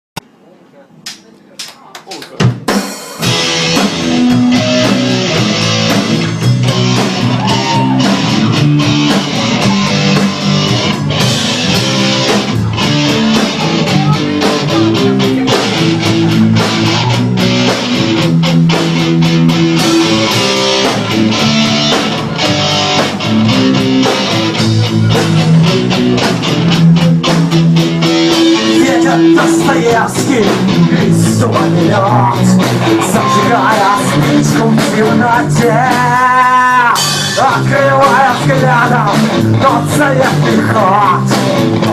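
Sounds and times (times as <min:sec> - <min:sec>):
drums playing a steady beat: 0:01.1 - 0:41.9
electric guitars: 0:02.4 - 0:41.9.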